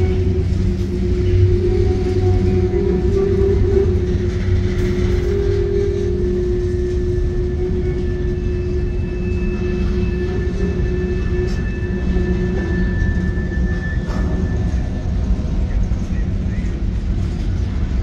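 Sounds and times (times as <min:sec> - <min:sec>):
steady whining tone: 0:00.0 - 0:18.0
steel wheels rumbling on rails: 0:00.0 - 0:18.0.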